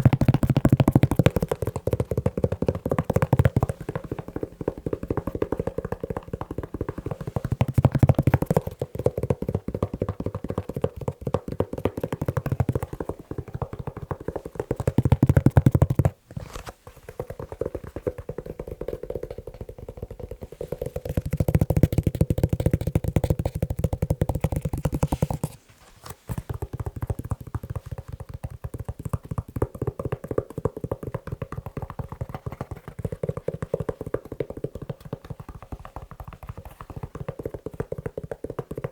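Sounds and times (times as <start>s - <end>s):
fast tapping on leather shoe: 0.0s - 16.2s, 16.9s - 25.6s, 26.3s - 38.9s.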